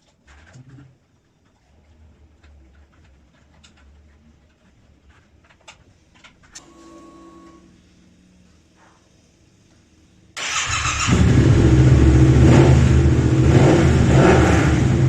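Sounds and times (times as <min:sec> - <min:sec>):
faint electric hum: 0:00.0 - 0:14.2.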